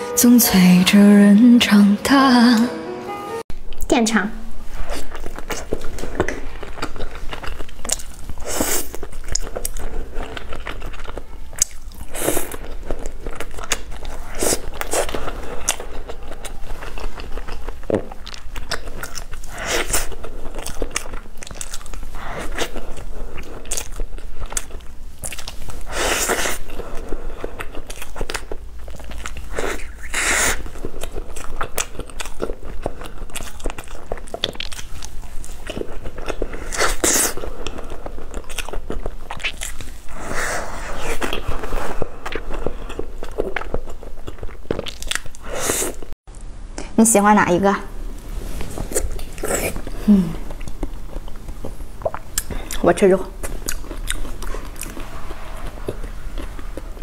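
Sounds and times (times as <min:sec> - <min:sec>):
person biting and chewing food: 0:04.8 - 0:46.1, 0:48.6 - 0:57.0.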